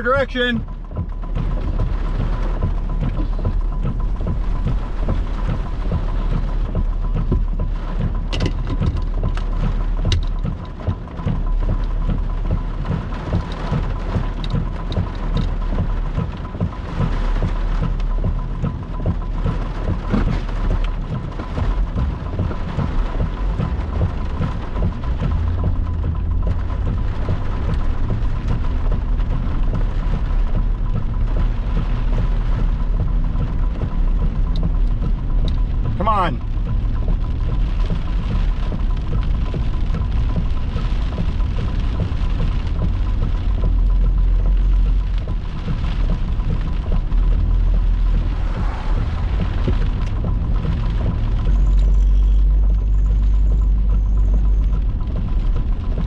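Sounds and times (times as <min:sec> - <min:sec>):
drops or hail ticking: 0:00.0 - 0:56.0
heavy rain: 0:00.0 - 0:56.0
low rumble: 0:00.0 - 0:56.0
gusting wind: 0:00.5 - 0:56.0.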